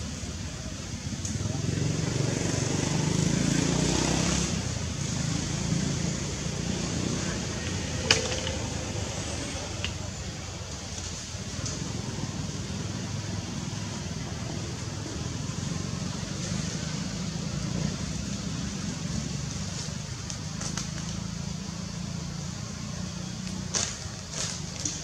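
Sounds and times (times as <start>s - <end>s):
constant hiss: 0.0s - 25.0s
low engine-like hum: 0.0s - 25.0s.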